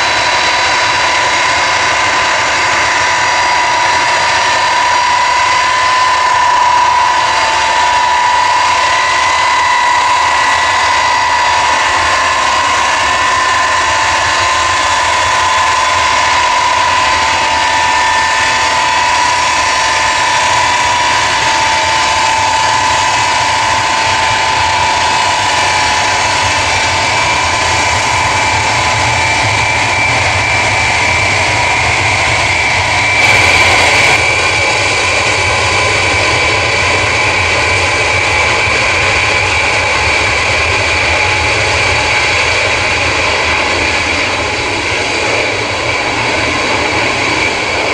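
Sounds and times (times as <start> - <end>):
jet engines whining: 0.0 - 47.9.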